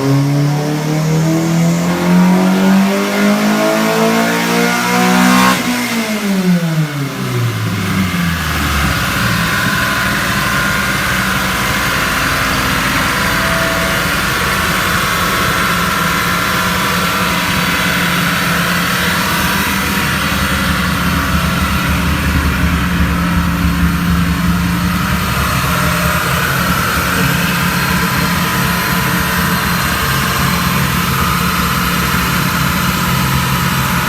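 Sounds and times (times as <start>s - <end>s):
turbocharged car engine running: 0.0s - 34.0s.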